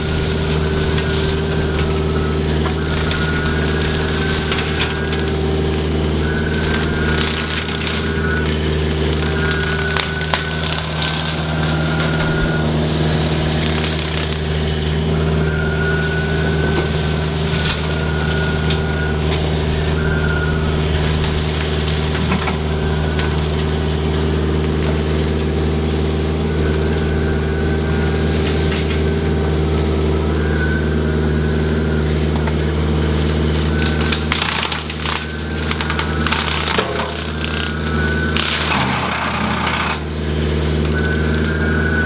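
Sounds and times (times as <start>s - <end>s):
brush crackling and snapping: 0.0s - 42.0s
mower engine running: 0.0s - 42.0s.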